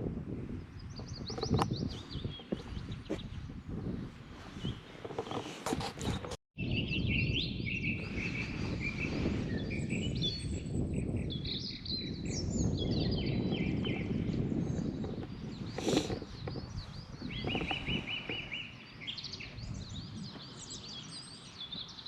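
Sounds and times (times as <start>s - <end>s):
songbirds chirping and trilling: 0.4s - 22.0s.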